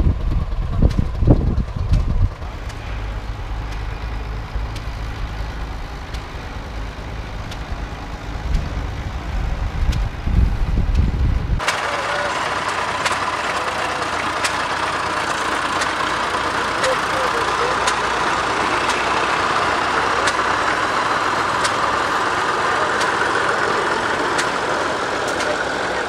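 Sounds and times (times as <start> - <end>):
tractor engines idling: 0.0 - 26.0.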